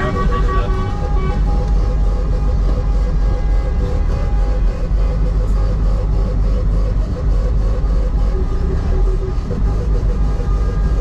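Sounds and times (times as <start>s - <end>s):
heavy truck driving: 0.0s - 11.0s.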